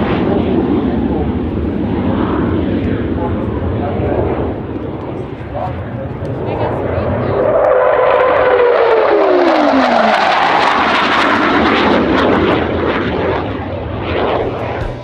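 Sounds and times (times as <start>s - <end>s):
jet aircraft passing: 0.0s - 15.0s
jet engine whine falling in pitch: 0.0s - 15.0s.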